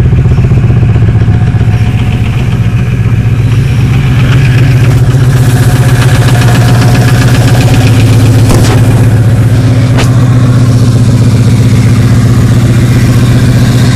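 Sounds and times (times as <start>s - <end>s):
diesel truck engine idling: 0.0s - 13.9s.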